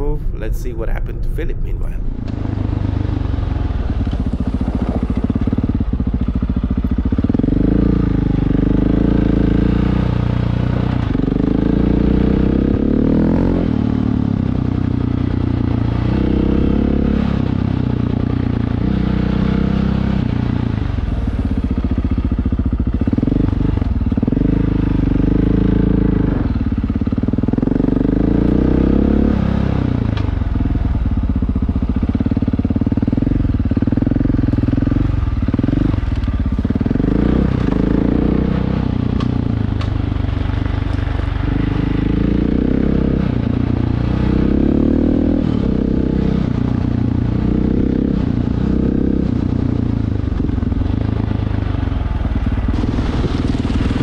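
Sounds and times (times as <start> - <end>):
motorcycle engine revving: 2.0 - 54.0.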